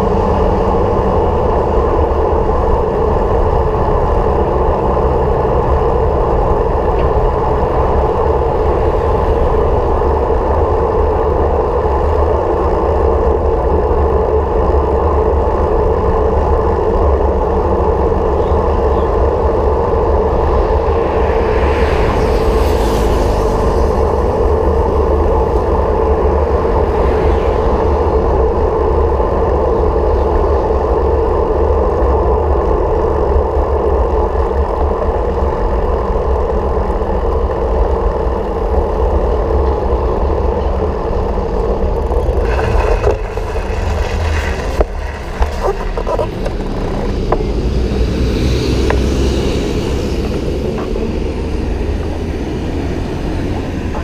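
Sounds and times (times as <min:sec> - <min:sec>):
vehicle running rumble and drone: 0:00.0 - 0:54.0.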